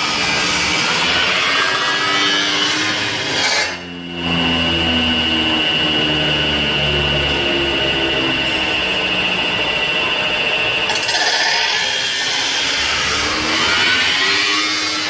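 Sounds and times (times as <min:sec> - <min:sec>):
low machine hums: 0:00.0 - 0:15.0
motor whine: 0:00.0 - 0:15.0.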